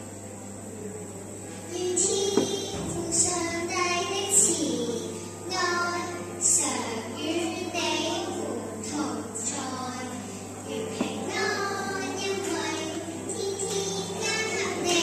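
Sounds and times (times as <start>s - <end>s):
low steady hum: 0.0s - 15.0s
girl singing into a microphone: 1.7s - 15.0s.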